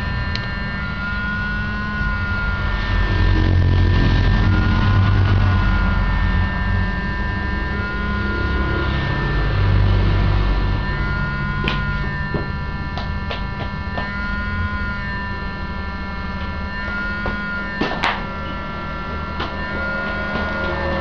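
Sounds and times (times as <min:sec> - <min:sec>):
faint high steady tones: 0:00.0 - 0:21.0
low electrical hum: 0:00.0 - 0:21.0.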